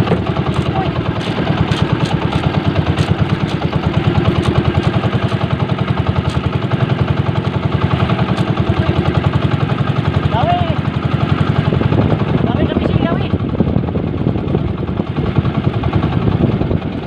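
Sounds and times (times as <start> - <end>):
small engine chugging: 0.0 - 17.0.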